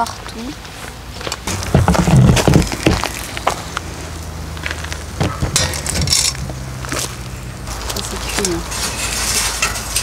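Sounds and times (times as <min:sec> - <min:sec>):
fire crackling: 0:00.0 - 0:10.0.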